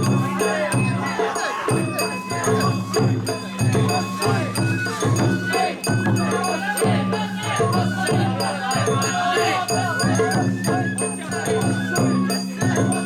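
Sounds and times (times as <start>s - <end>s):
festival music played live: 0.0s - 13.0s.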